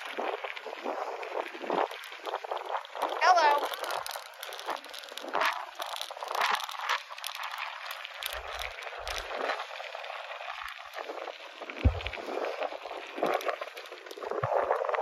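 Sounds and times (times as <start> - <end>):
bicycle tyres on gravel: 0.0 - 15.0.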